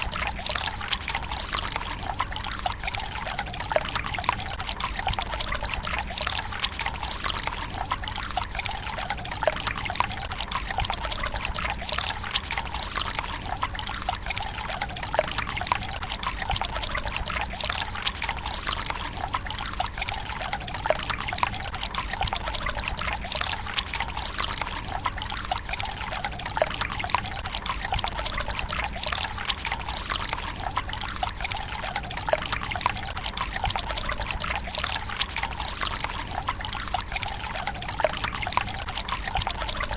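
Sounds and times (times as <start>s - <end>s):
water trickling into stone basin: 0.0s - 39.9s.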